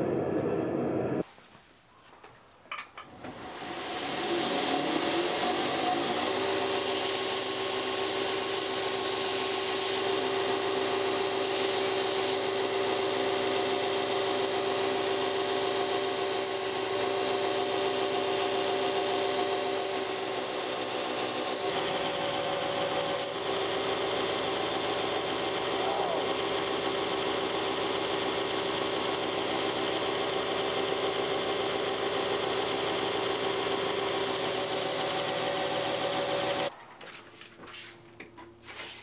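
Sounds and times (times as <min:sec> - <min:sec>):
belt grinder motor running: 0:03.6 - 0:36.7.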